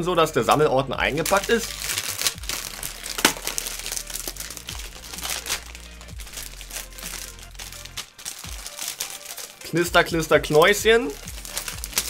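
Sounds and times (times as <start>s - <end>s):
plastic shrink wrap crinkling: 0.6s - 12.0s.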